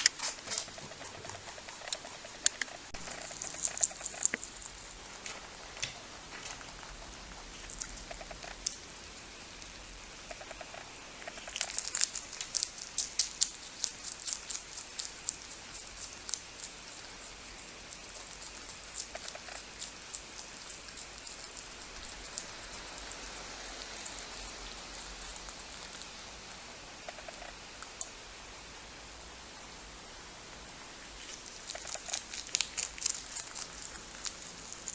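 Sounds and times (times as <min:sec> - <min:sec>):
rabbit crunching leaves: 0:00.0 - 0:28.1, 0:31.2 - 0:34.9
faint steady hiss: 0:00.0 - 0:34.9.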